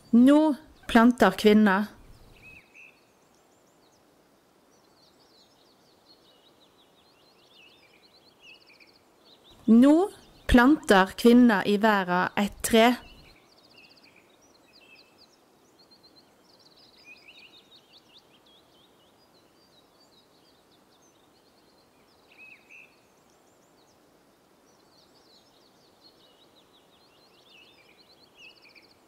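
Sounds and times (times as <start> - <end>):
faint songbirds chirping and trilling: 0.0 - 29.0
low steady hiss: 0.0 - 29.0.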